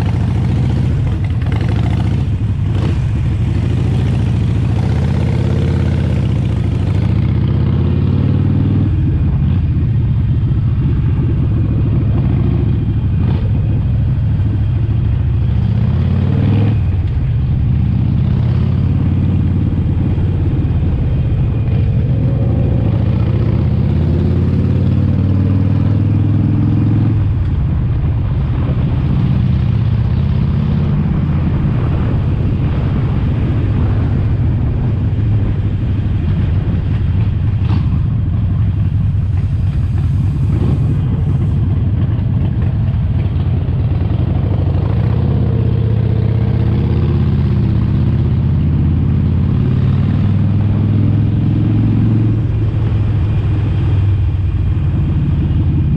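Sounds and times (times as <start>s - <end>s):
motorcycle engine rumbling: 0.0s - 55.9s.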